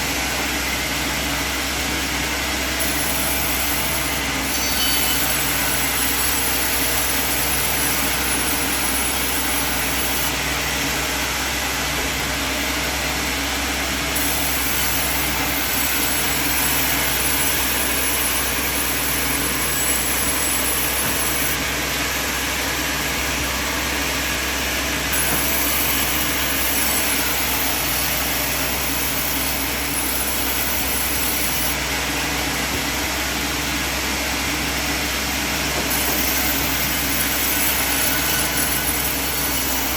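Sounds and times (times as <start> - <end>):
sawmill machine running: 0.0 - 39.9.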